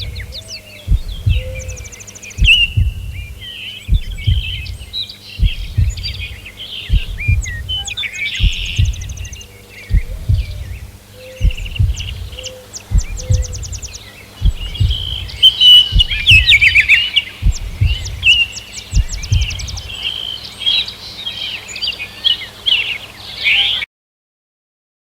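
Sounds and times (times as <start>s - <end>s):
low thuds: 0.0s - 20.2s
birds singing and trilling: 0.0s - 23.9s.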